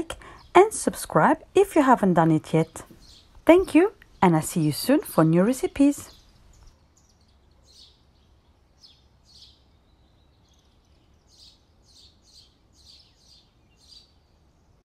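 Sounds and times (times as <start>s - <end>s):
bird chirping: 0.0s - 14.8s
low steady hiss: 0.0s - 14.8s.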